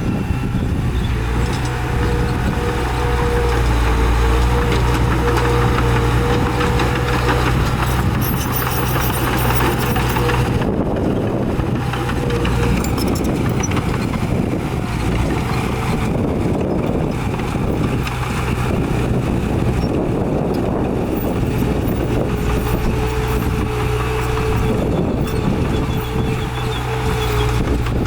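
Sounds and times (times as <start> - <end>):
diesel earthmoving machinery running: 0.0 - 28.0.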